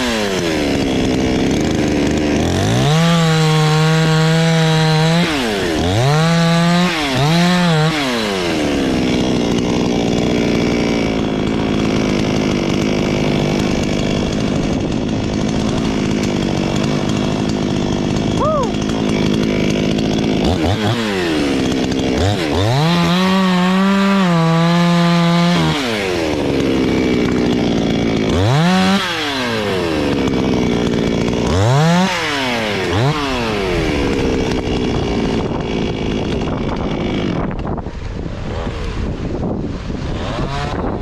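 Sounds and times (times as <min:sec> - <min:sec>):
chainsaw engine revving: 0:00.0 - 0:41.0.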